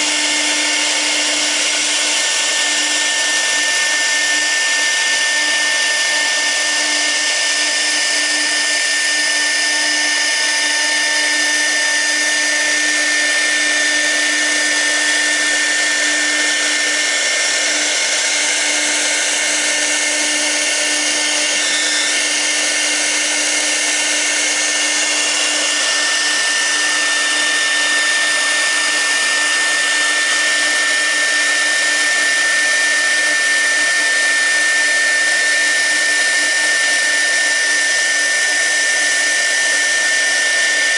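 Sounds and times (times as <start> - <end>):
router spindle whine: 0.0 - 40.9.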